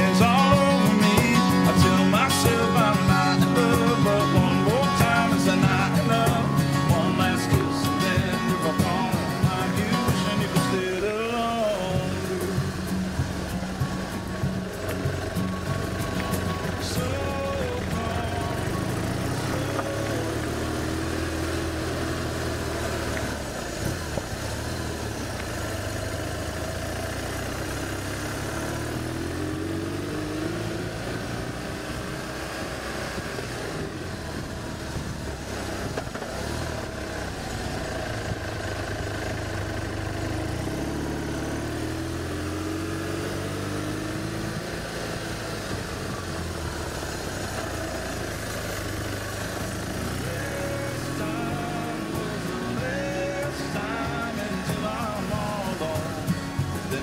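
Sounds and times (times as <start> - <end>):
vehicle engine climbing: 0.0 - 57.0.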